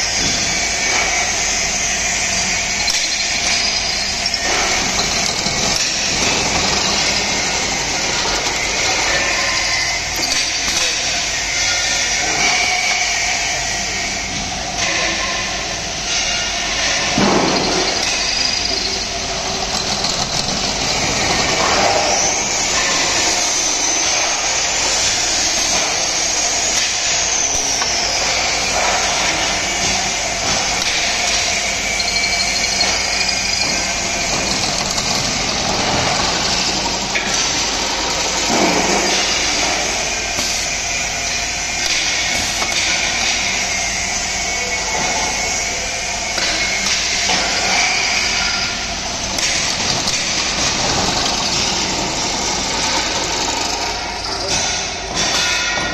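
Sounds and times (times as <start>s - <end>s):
drilling machine running: 0.0s - 55.9s
high wavering whine: 0.0s - 55.9s.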